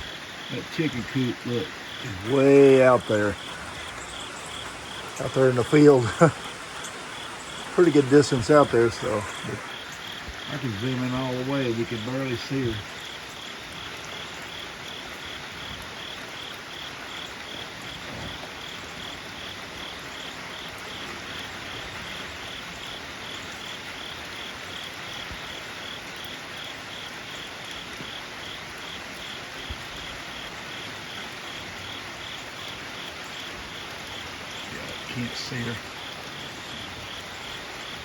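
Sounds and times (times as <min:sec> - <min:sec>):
background hiss: 0:00.0 - 0:38.0
crickets chirping: 0:00.0 - 0:38.0.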